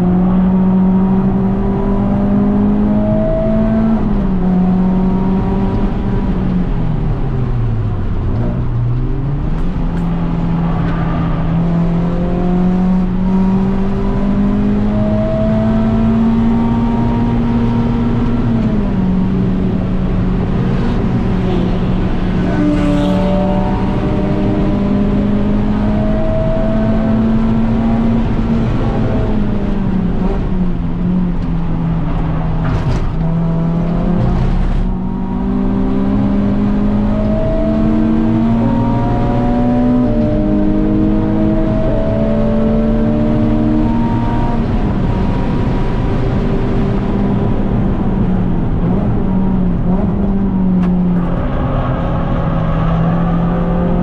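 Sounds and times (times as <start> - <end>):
race car engine revving: 7.9 - 54.0.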